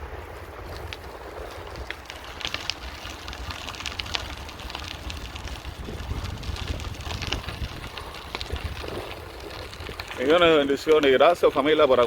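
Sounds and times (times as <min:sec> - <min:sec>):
wind buffeting microphone: 0:00.0 - 0:12.0
bicycle clicks and rattles: 0:00.5 - 0:12.0.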